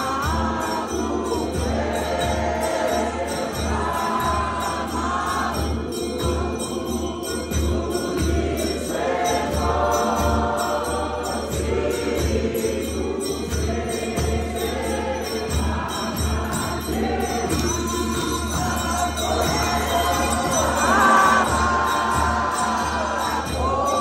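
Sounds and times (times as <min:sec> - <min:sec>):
congregation singing: 0:00.0 - 0:24.0.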